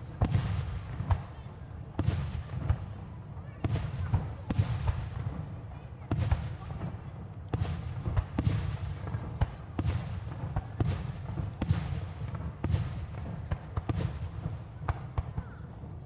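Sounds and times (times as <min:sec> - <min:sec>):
fireworks bursting bangs: 0:00.0 - 0:15.9
low rumble of fireworks: 0:00.0 - 0:16.0.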